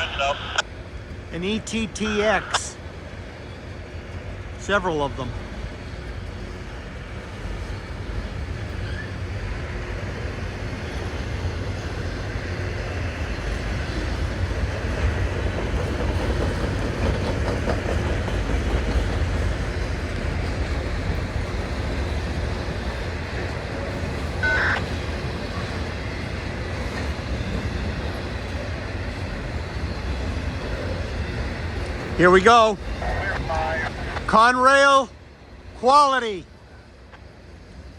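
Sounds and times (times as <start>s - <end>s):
freight train rumbling on rails: 0.0s - 37.9s.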